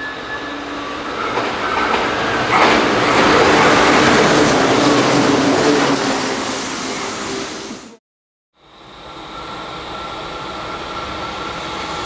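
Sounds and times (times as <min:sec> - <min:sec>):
train passing through station: 0:00.0 - 0:08.0, 0:08.6 - 0:12.0.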